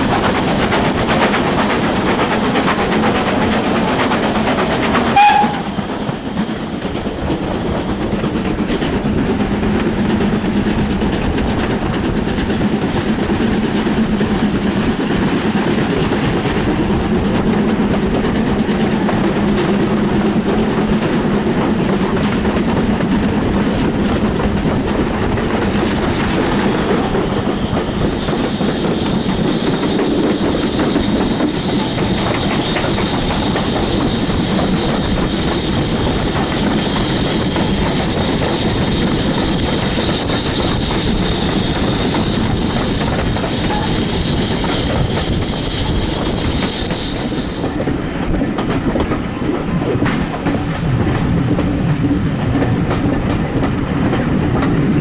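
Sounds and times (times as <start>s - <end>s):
rushing air: 0.0s - 55.0s
train wheels rumbling on rail: 0.0s - 55.0s.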